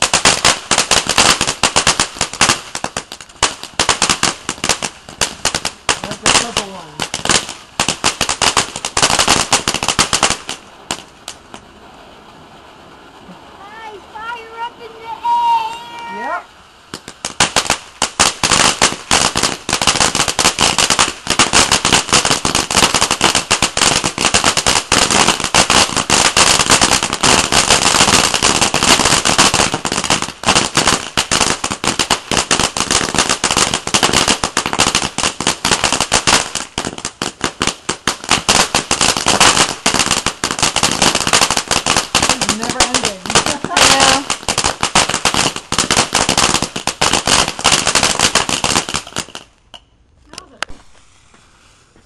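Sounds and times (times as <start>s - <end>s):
firework crackling: 0.0s - 52.0s.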